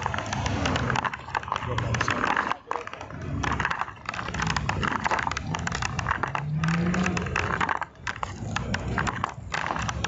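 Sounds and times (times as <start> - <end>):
road traffic hum: 0.0 - 10.0
rustling and crackling on microphone: 0.0 - 10.0.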